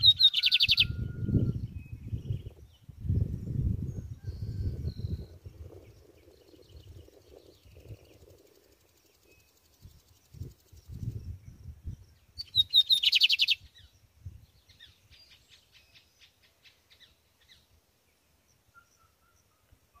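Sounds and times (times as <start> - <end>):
bird singing rapid notes: 0.0 - 4.0, 4.7 - 17.7.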